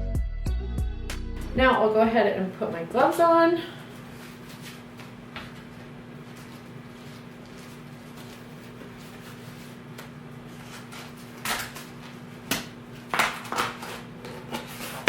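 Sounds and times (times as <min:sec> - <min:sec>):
steady low hum: 0:00.8 - 0:13.2.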